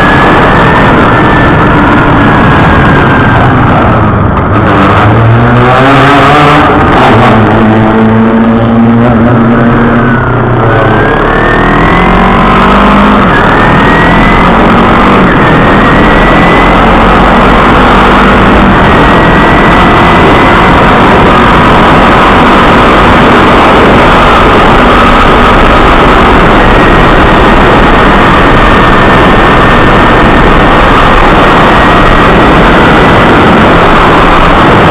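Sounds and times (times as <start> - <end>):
motorcycle engine accelerating: 0.0 - 34.9
wind rush on microphone: 0.0 - 34.9.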